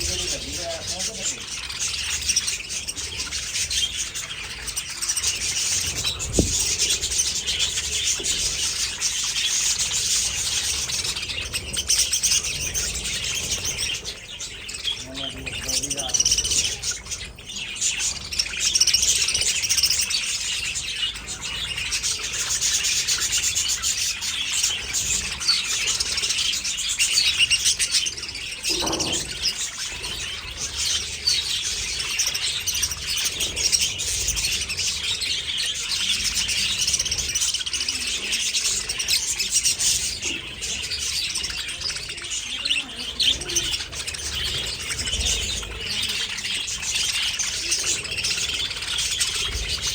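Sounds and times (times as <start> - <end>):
flock of budgerigars chattering: 0.0 - 49.9.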